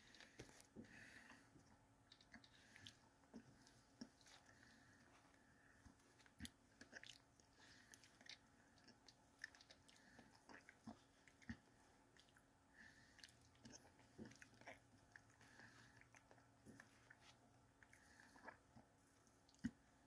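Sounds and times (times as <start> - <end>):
person chewing and swallowing: 0.0 - 20.0.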